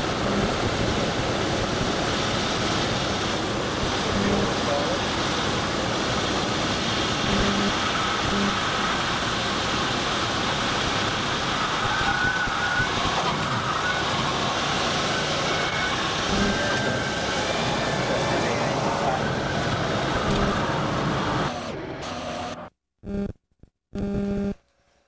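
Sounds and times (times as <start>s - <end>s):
airplane cabin engine noise: 0.0s - 22.5s.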